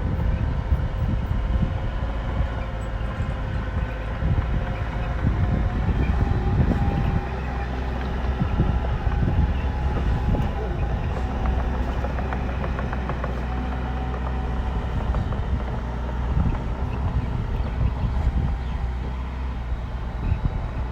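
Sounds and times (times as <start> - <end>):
bulldozer diesel engine: 0.0 - 20.9.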